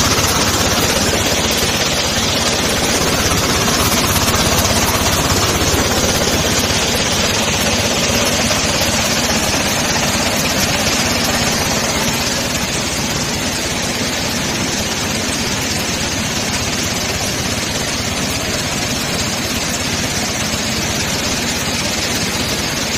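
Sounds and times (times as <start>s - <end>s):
sand washer machine running: 0.0s - 22.9s.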